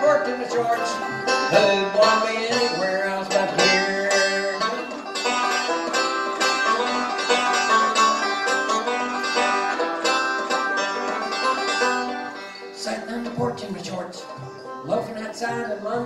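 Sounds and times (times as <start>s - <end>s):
banjo plucked notes: 0.0s - 16.0s.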